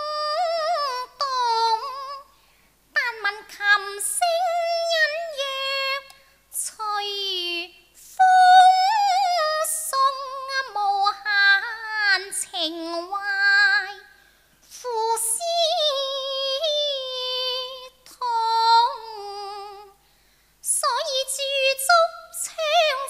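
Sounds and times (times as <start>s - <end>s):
woman singing opera with vibrato: 0.0s - 2.4s, 3.0s - 20.0s, 20.6s - 23.0s.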